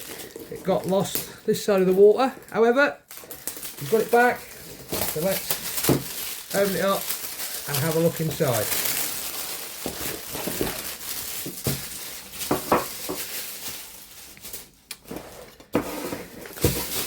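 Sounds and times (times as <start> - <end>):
cardboard packaging rustling: 0.0 - 17.0.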